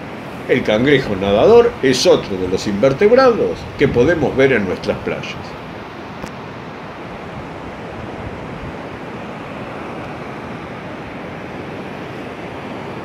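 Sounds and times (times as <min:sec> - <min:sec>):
surf rushing: 0:00.0 - 0:13.0
wind rumble on microphone: 0:00.7 - 0:13.0.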